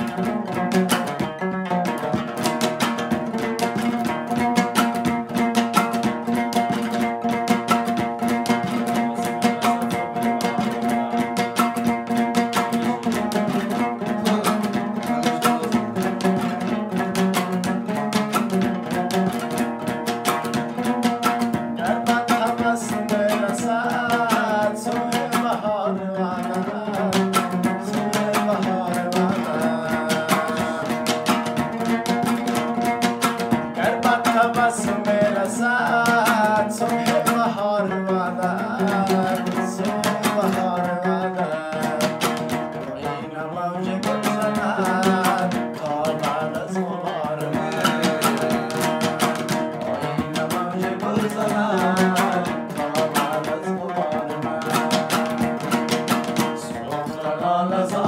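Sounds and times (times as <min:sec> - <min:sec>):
lute strummed fast: 0:00.0 - 0:58.0
man singing: 0:00.0 - 0:58.0.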